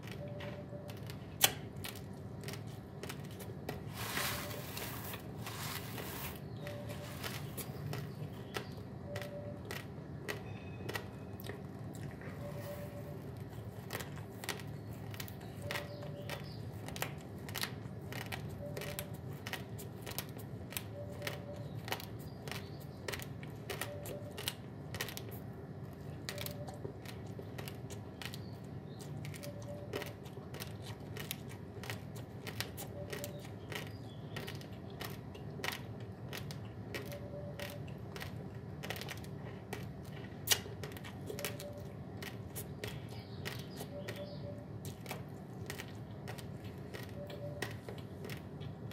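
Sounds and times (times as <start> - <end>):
raw rice being chewed: 0.0 - 48.9.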